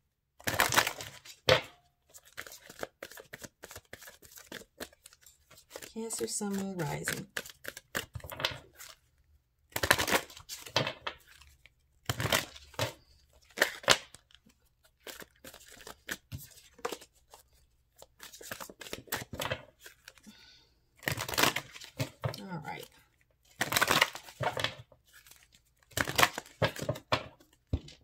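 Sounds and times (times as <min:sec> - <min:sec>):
cards being shuffled: 0:00.4 - 0:09.1, 0:09.7 - 0:20.3, 0:21.0 - 0:28.0.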